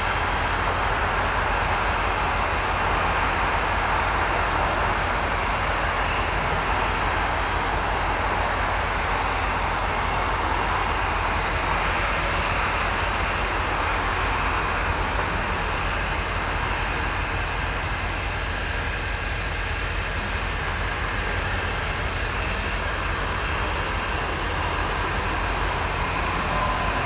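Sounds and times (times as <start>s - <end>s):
diesel locomotives idling: 0.0s - 27.0s.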